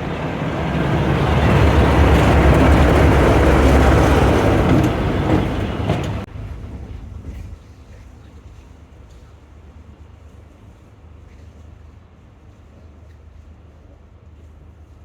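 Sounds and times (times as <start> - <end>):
train passing with heavy rumble: 0.0 - 15.0.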